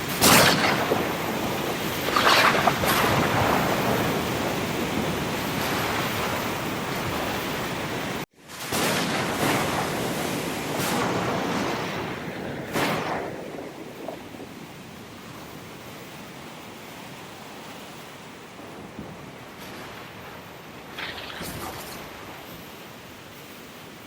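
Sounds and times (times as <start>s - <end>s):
ocean waves washing: 0.0s - 24.0s
waves breaking: 0.0s - 24.0s.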